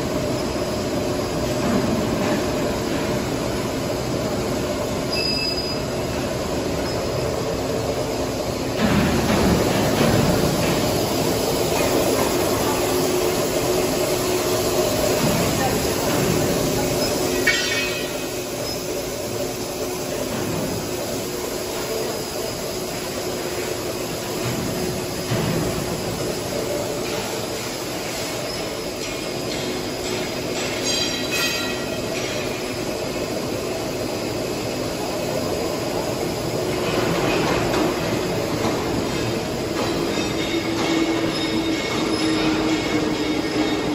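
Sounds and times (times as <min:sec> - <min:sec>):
machine whirring and humming: 0:00.0 - 0:43.9.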